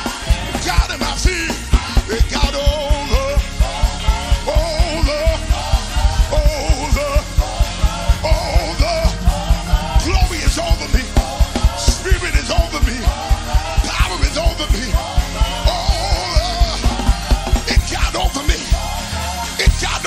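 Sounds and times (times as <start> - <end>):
fast drum beat: 0.0 - 20.0
gospel band playing: 0.0 - 20.0
lead singer's wavering voice: 0.0 - 20.0.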